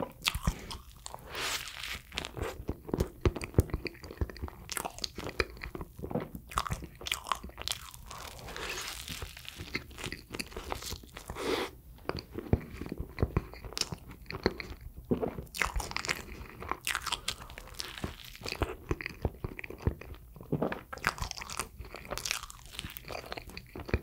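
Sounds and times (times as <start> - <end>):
person chewing bread: 0.0 - 24.0.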